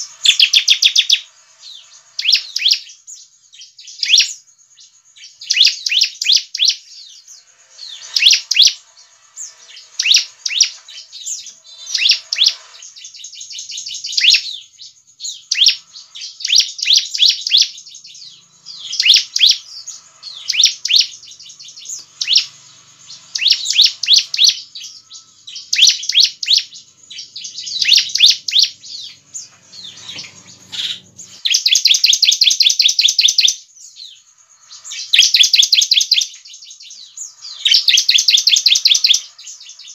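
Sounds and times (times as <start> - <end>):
bird chirping song: 0.0 - 39.9
bird trill: 0.0 - 39.9.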